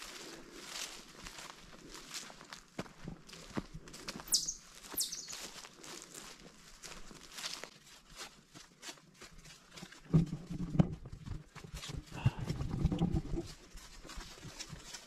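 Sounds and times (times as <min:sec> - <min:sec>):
footsteps on hiking trail: 0:00.0 - 0:15.0.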